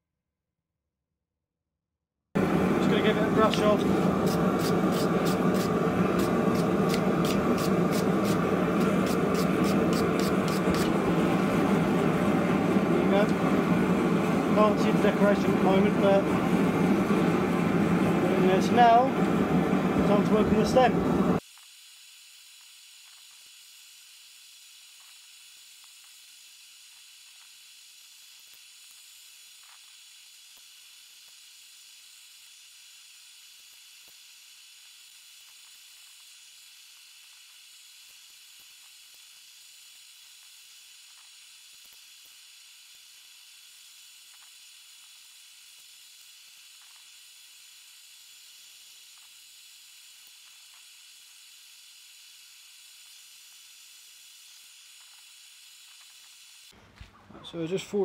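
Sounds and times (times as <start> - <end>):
gas burner hissing: 2.4 - 58.0.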